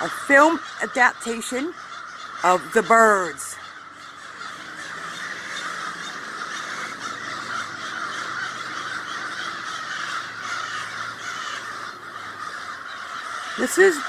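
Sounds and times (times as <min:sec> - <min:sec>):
flock of birds calling: 0:00.0 - 0:14.0.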